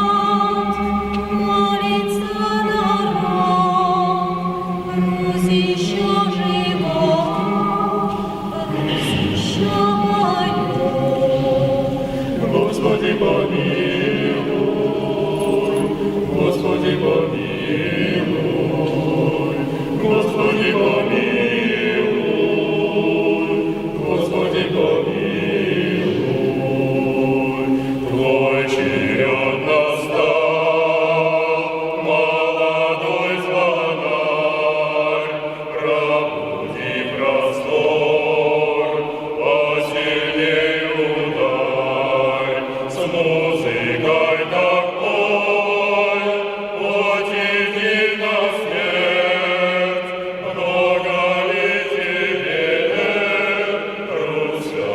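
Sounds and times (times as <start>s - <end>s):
choir singing in harmony: 0.0s - 54.9s.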